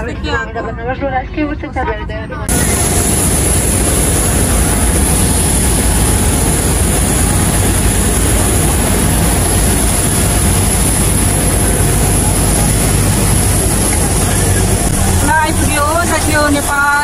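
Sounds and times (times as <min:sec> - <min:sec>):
jet aircraft roar: 0:02.4 - 0:17.0.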